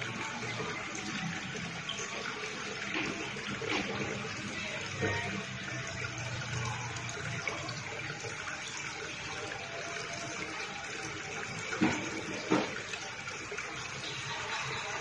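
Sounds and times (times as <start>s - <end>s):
pond water running and splashing: 0.0s - 15.0s.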